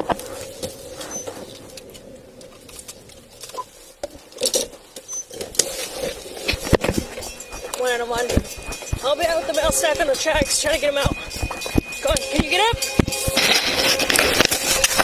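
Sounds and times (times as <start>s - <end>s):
camera rustling against clothing: 0.0s - 15.0s
steady faint tone: 0.0s - 15.0s.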